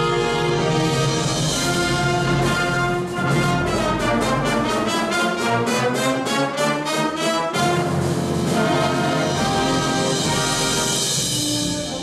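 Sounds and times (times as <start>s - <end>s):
concert band playing a march: 0.0s - 12.0s.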